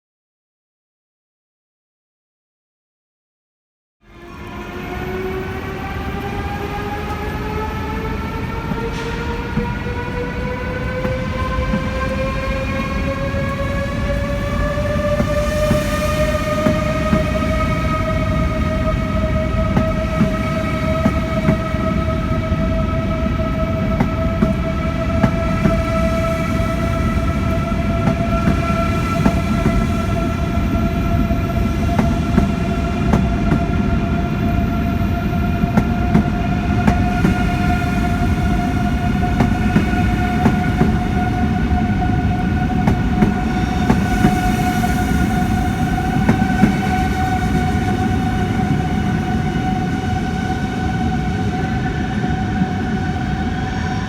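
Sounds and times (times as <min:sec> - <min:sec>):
low train rumble: 0:04.0 - 0:54.0
electric train motor whine: 0:04.1 - 0:54.0
wheels clicking over rail joints: 0:04.4 - 0:49.2.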